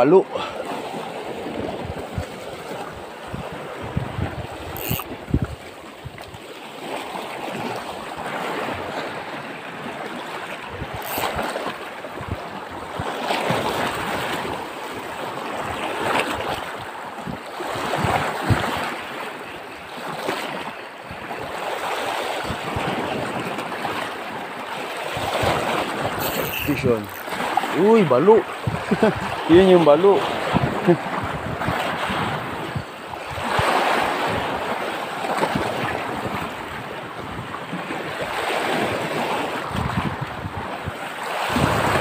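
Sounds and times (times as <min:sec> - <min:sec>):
waves washing over rocky shore: 0:00.0 - 0:42.0.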